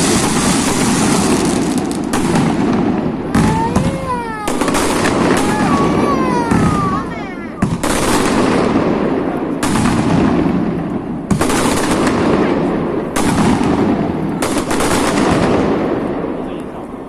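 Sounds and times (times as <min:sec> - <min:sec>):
fireworks crackling and popping: 0:00.0 - 0:17.0.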